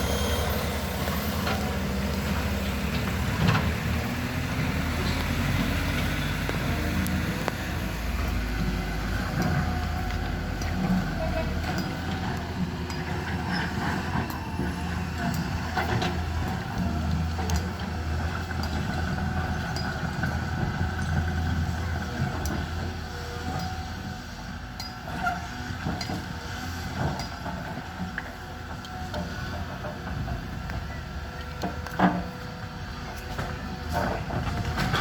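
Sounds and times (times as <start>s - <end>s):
excavator diesel engine humming: 0.0s - 35.0s.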